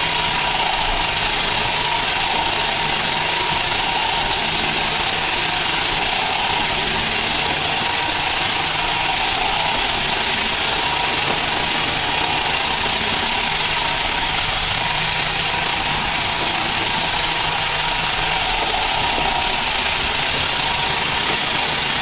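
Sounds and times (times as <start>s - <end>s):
faint high whine: 0.0s - 22.0s
robot vacuum whirring: 0.0s - 22.0s.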